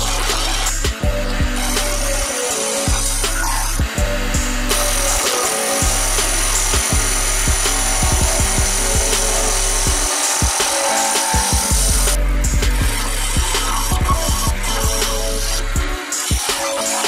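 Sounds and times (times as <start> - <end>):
background music: 0.0 - 17.0
lathe motor hum: 0.0 - 17.0
chisel cutting wood hiss: 1.6 - 17.0.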